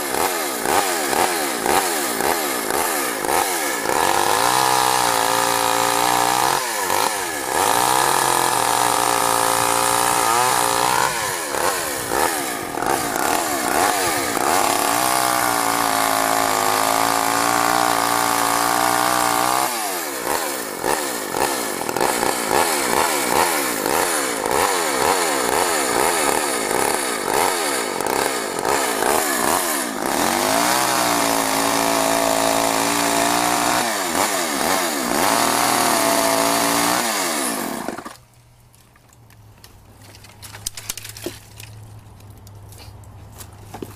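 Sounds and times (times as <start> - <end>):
chainsaw running at high revs: 0.0 - 38.2.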